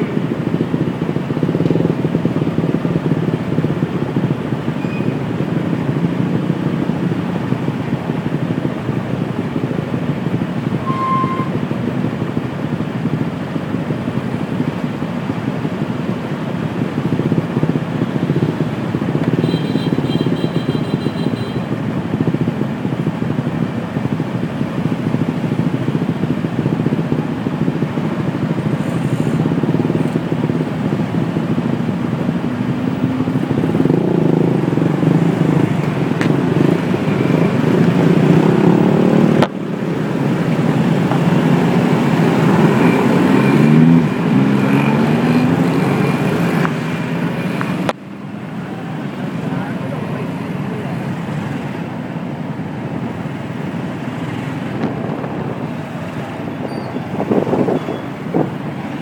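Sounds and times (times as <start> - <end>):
engines idling in traffic: 0.0 - 59.0
motorbike engines revving: 0.0 - 59.0.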